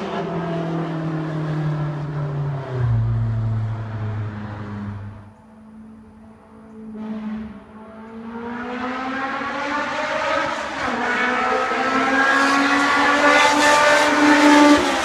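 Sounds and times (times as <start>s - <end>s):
car engine accelerating hard: 0.0s - 5.4s, 6.9s - 15.0s.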